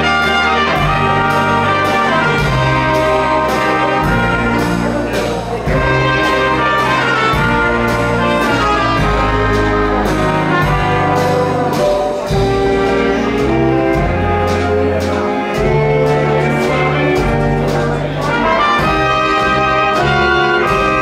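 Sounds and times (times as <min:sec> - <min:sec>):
dance band playing jazz: 0:00.0 - 0:21.0.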